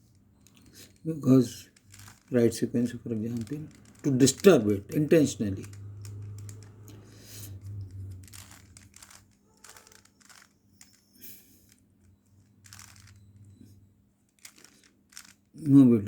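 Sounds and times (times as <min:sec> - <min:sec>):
puzzle cube plastic clicks: 0:00.0 - 0:15.7.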